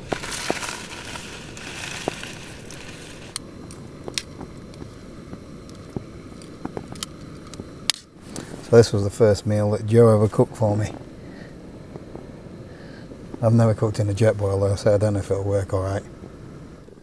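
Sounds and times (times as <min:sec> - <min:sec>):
gas stove burner hissing: 0:00.0 - 0:17.0.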